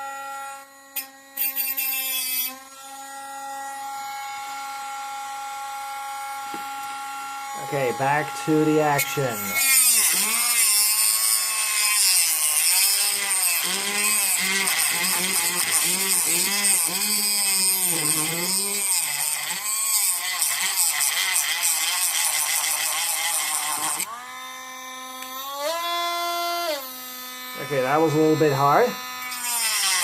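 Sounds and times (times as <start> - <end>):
rotary tool cutting plastic: 0.0 - 4.8, 6.4 - 30.0.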